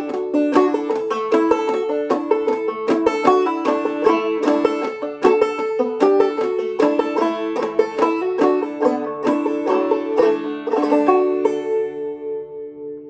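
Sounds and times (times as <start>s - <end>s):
banjo chord ringing: 0.0s - 13.0s
banjo plucked notes: 0.0s - 13.0s.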